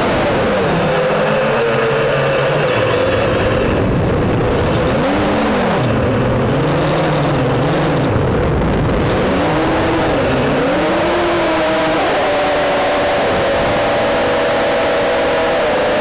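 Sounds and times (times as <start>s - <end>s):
drone motors humming: 0.0s - 16.0s
rushing noise: 0.0s - 16.0s.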